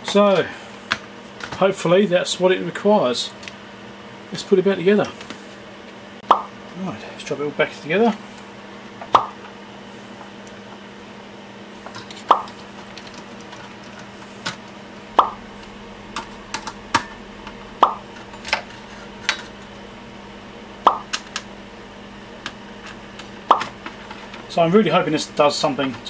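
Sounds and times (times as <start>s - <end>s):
low steady hum: 1.5s - 26.0s.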